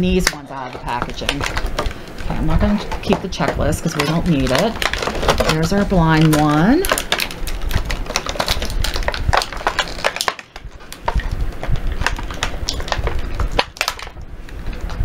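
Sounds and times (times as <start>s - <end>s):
packaging crinkling by hand: 0.0s - 15.0s.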